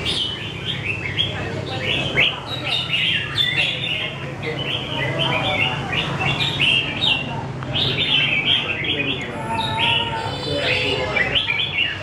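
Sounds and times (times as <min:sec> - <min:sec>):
birds warbling: 0:00.0 - 0:12.0.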